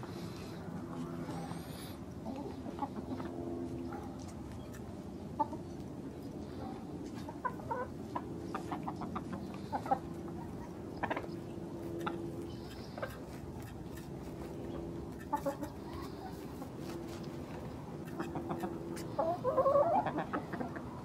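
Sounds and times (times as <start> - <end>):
chickens clucking: 0.0 - 21.0
low held murmuring notes: 0.0 - 21.0.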